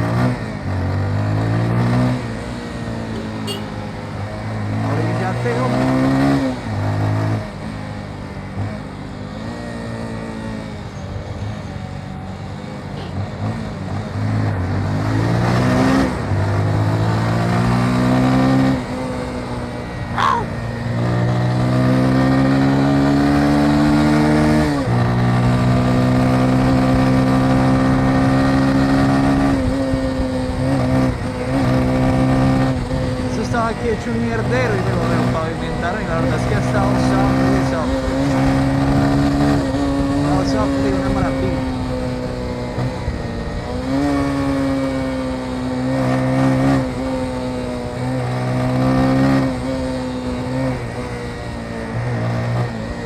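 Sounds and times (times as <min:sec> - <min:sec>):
motorcycle accelerating through gears: 0:00.0 - 0:53.0.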